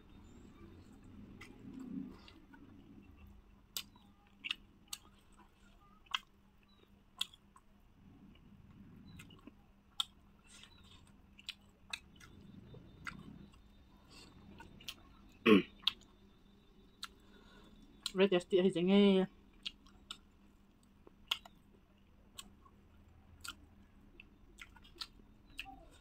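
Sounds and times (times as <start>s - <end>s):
person chewing food: 0.2s - 18.2s, 19.4s - 26.0s.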